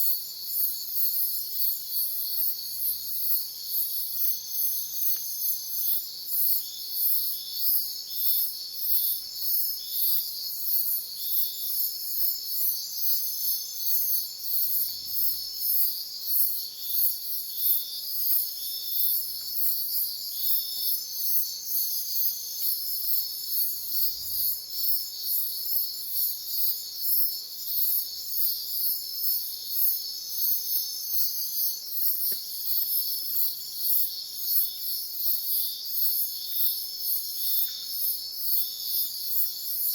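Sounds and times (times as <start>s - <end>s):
overlapping insect trills: 0.0s - 39.9s
pulsing cricket chirp: 0.0s - 39.9s.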